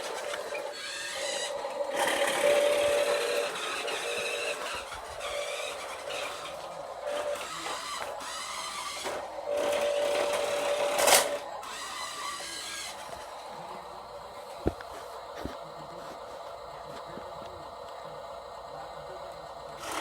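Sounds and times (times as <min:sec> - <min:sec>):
small motor whirring: 0:00.0 - 0:20.0.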